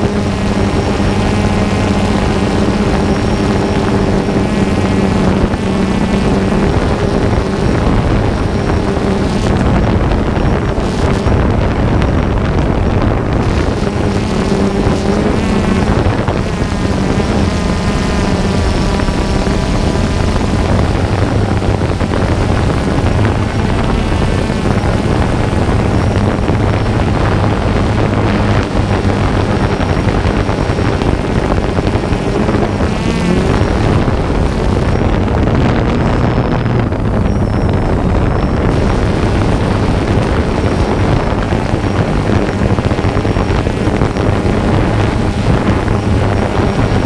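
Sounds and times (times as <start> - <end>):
drone motors humming: 0.0 - 47.0
wind on microphone: 0.0 - 47.0.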